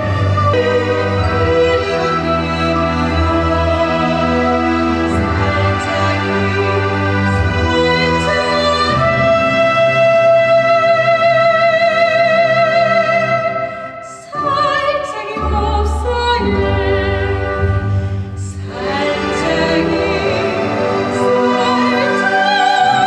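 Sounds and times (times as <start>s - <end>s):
instrumental accompaniment: 0.0s - 12.0s, 13.0s - 23.0s
operatic singing with vibrato: 0.0s - 23.0s.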